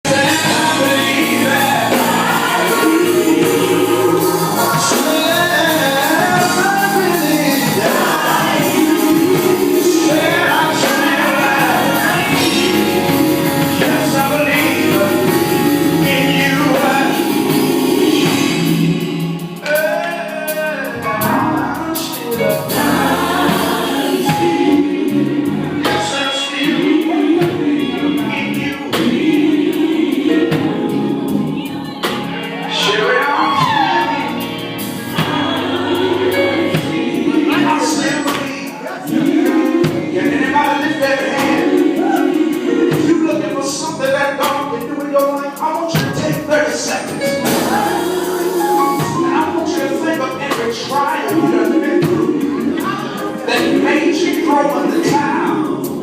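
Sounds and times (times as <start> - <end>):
band accompaniment with steady beat: 0.0 - 56.0
gospel quartet singing in harmony: 0.0 - 56.0.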